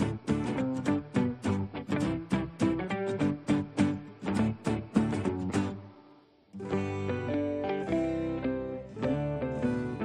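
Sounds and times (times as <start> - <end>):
plucked guitar melody: 0.0 - 6.0, 6.6 - 10.0.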